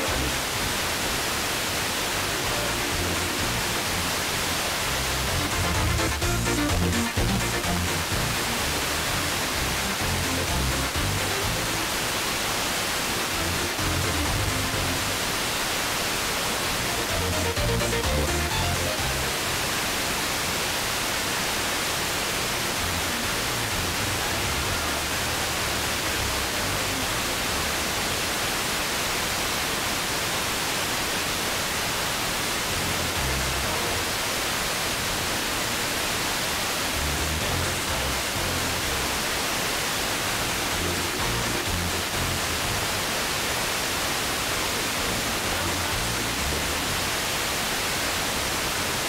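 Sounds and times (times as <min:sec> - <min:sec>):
radio static hiss: 0:00.0 - 0:49.0.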